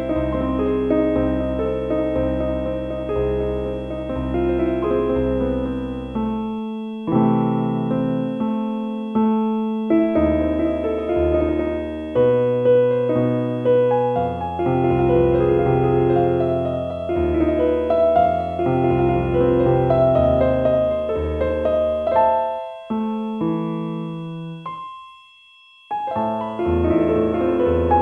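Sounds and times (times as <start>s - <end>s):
faint steady high tone: 0.0s - 28.0s
slow solo piano music: 0.0s - 28.0s.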